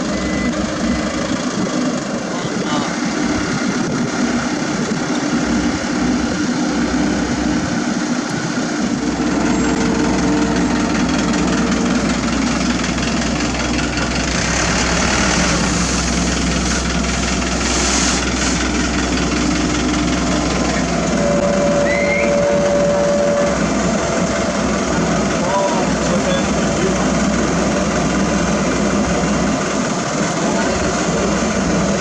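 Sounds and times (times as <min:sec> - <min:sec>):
diesel engines humming: 0:00.0 - 0:32.0.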